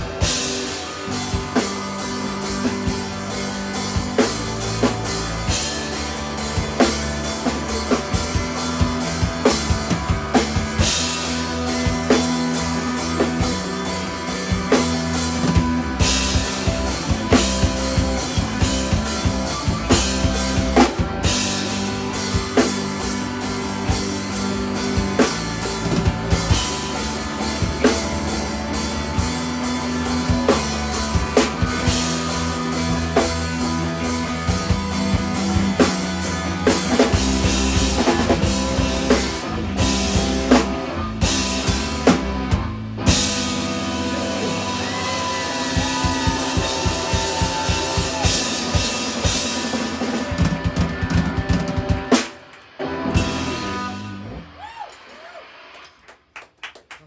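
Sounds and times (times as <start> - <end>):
sustained guitar chords: 0.0 - 52.1, 52.7 - 54.5
drum kit: 0.0 - 57.0.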